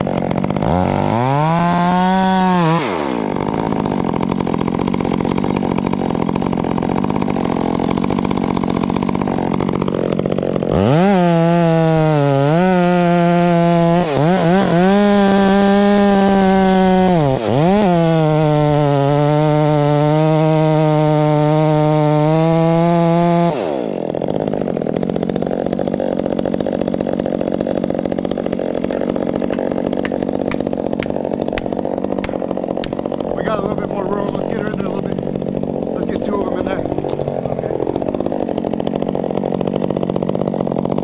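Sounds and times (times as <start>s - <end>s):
chainsaw revving: 0.0s - 41.0s.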